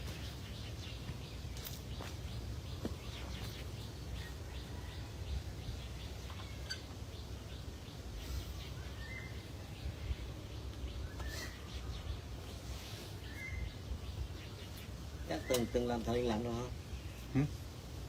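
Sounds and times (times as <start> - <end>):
bird chirping: 0.0 - 17.9.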